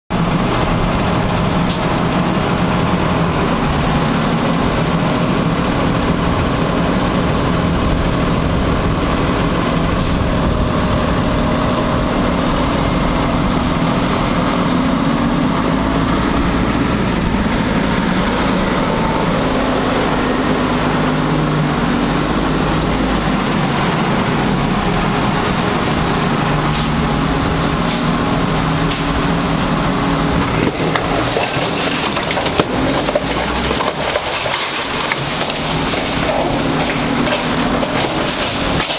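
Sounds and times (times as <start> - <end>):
diesel truck engine driving: 0.1 - 38.9.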